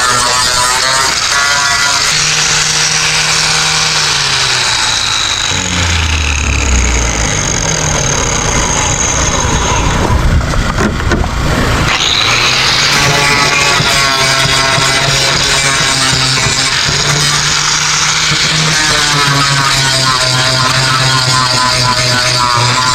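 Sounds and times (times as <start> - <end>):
engine running loudly: 0.0 - 22.9.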